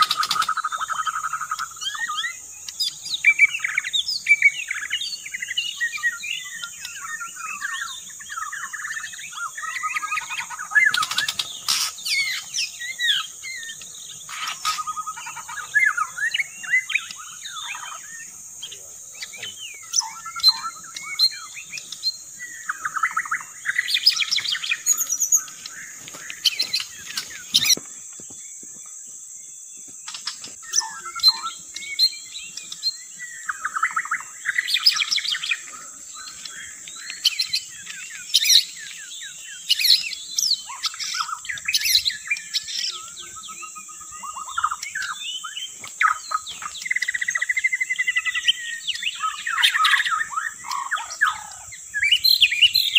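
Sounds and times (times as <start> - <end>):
bird singing whistles and trills: 0.0 - 28.9, 30.1 - 52.9.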